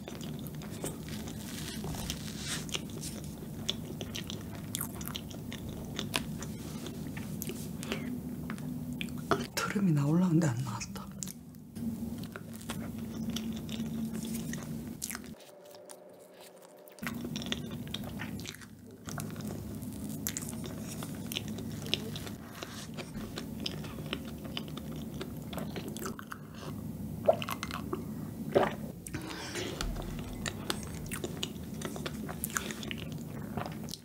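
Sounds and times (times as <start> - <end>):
chewing soft cake: 0.0 - 9.5, 11.1 - 34.0.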